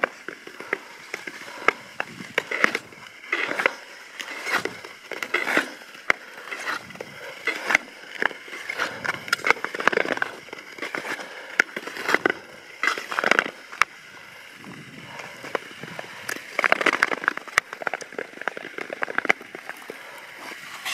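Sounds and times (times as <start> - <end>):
ice skates scraping on ice: 0.0 - 20.9
sharp skate clicks: 0.0 - 20.9.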